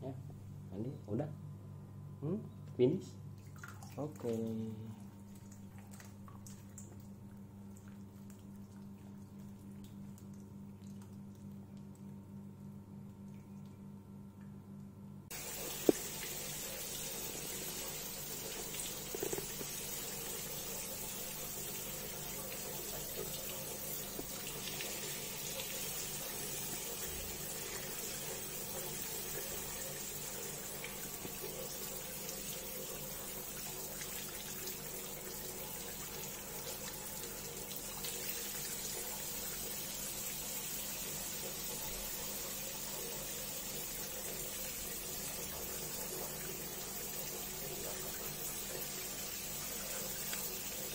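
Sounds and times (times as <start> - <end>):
water running from a tap: 3.4 - 12.1, 15.3 - 50.9.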